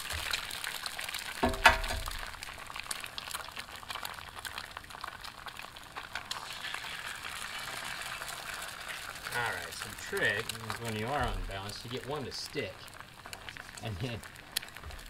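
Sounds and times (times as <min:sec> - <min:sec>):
eggs sizzling on a griddle: 0:00.0 - 0:15.0.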